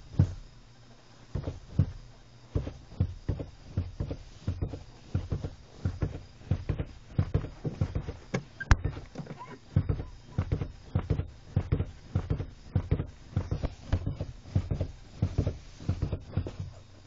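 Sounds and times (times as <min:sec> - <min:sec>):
boots pumping car pedals: 0:00.0 - 0:00.6, 0:01.3 - 0:17.0.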